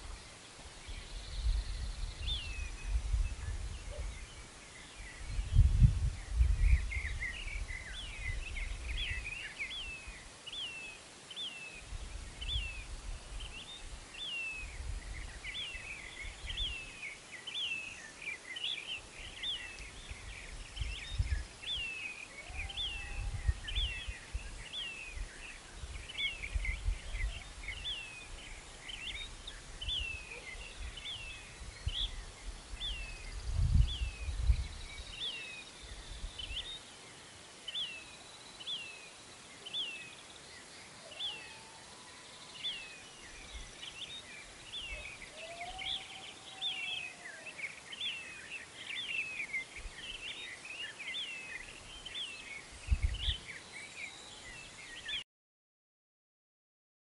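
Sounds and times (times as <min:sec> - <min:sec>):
birds chirping: 0:00.0 - 0:55.2.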